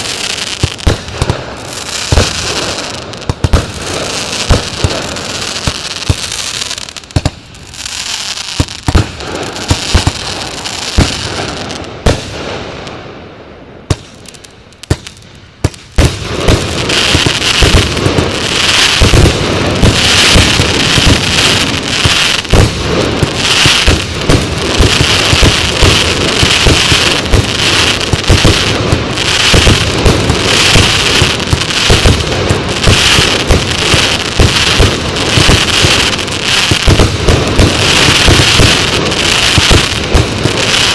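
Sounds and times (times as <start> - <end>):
firework bangs: 0.0 - 40.9
firework crackle: 0.0 - 40.9
firework volley of shots: 0.0 - 40.9.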